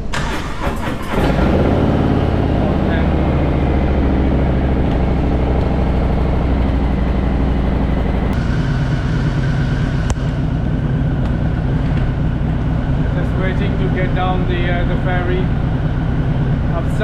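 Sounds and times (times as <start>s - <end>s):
motorcycle engine idling: 1.5s - 17.0s.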